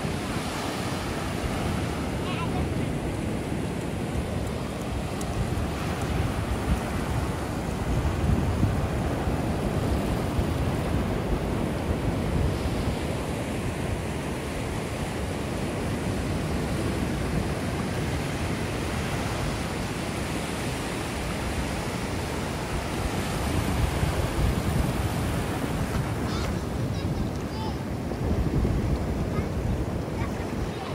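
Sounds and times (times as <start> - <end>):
ocean surf breaking: 0.0 - 30.9
wind rumbling on microphone: 0.0 - 30.9.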